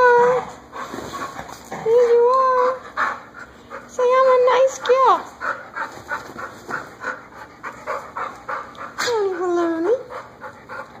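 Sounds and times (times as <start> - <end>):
dog panting: 0.5 - 11.0.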